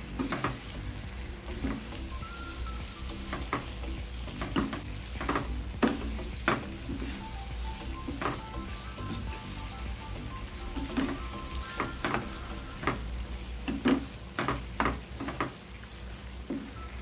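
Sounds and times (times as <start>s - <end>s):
seafood sizzling in a pan: 0.0s - 17.0s.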